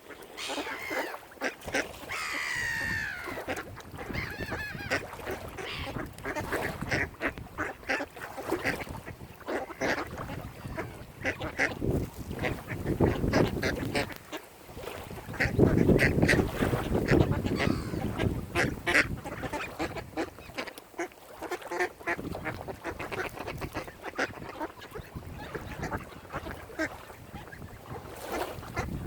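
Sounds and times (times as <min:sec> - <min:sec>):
waterfowl honking and quacking: 0:00.0 - 0:14.5, 0:15.2 - 0:29.0.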